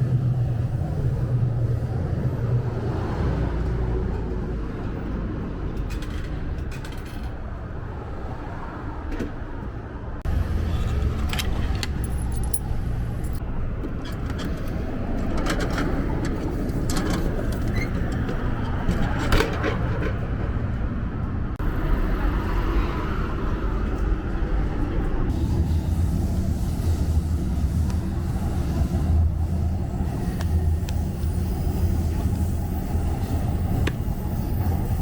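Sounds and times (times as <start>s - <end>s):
city street rumble: 0.0s - 35.0s.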